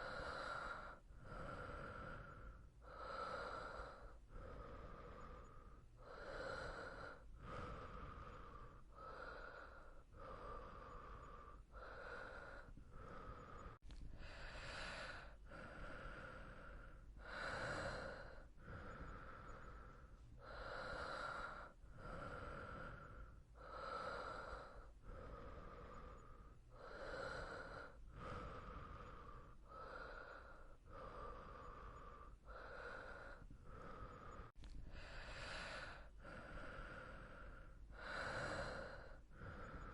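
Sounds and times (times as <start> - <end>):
person breathing slowly: 0.0 - 39.9.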